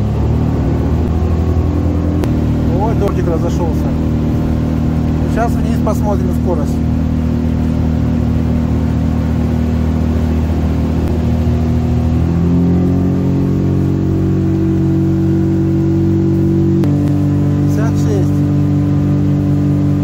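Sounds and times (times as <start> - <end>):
outboard motor running at speed: 0.0 - 20.0.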